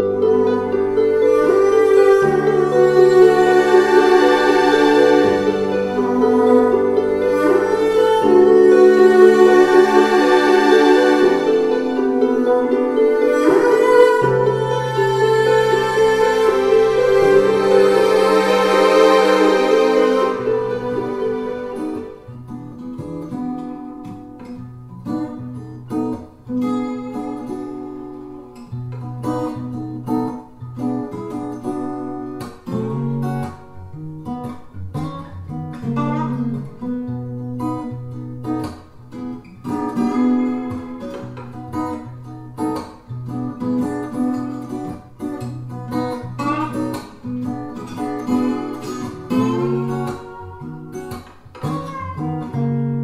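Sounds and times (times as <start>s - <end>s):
acoustic blues guitar: 0.0s - 53.0s.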